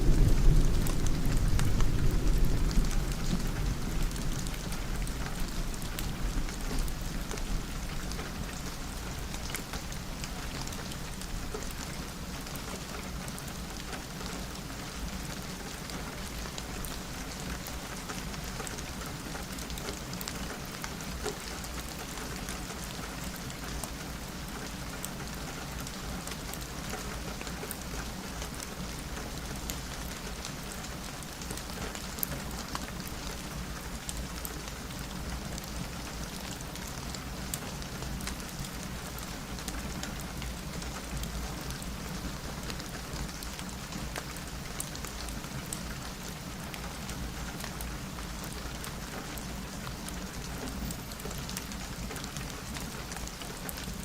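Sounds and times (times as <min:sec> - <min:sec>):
rain on a window: 0:00.0 - 0:54.0
sharp ticks of raindrops: 0:00.0 - 0:54.0.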